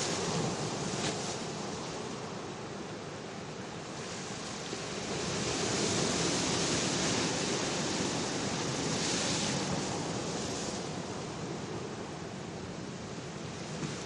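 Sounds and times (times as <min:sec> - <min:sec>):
waves washing onto rocky shore: 0:00.0 - 0:02.8, 0:03.5 - 0:14.0.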